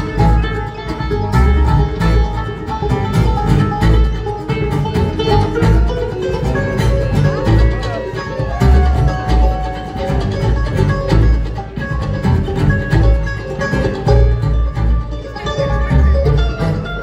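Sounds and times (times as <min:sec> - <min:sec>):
bluegrass band playing: 0:00.0 - 0:17.0
gliding bending lead notes: 0:00.0 - 0:17.0.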